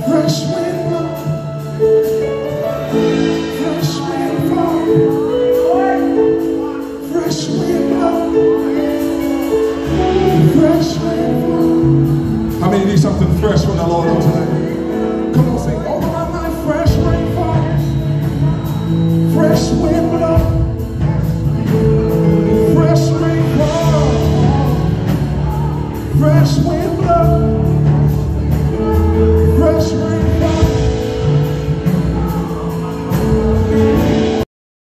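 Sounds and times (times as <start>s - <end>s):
band accompaniment: 0.0s - 34.5s
man singing lead: 0.0s - 34.5s.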